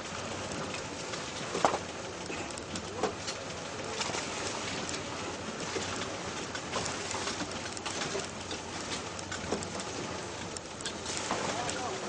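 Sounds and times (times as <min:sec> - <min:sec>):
crackles and rattles: 0:00.0 - 0:12.0
vehicle engine and tyres rumbling: 0:00.0 - 0:12.0.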